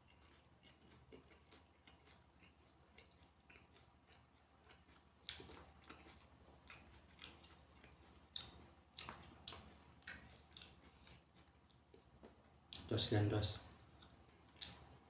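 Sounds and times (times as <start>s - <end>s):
person chewing food: 0.0s - 12.9s, 13.6s - 15.0s.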